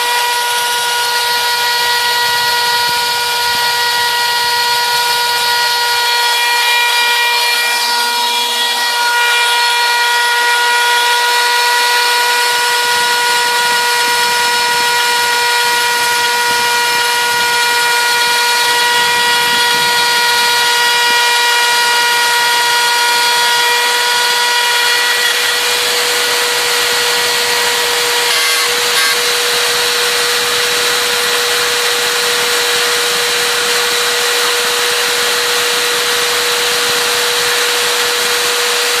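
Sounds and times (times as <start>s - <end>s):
spiral saw high-pitched whine: 0.0s - 39.0s.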